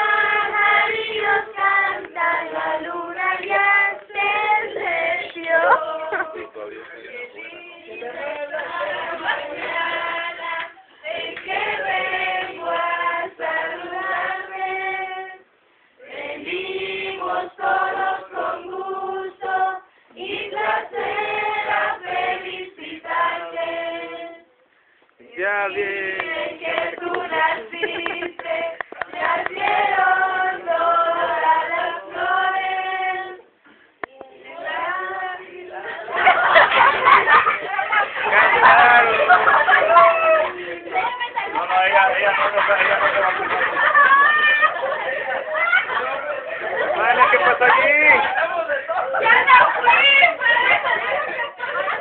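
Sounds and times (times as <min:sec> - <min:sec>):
group of people singing: 0:00.0 - 0:24.6, 0:25.2 - 0:52.0.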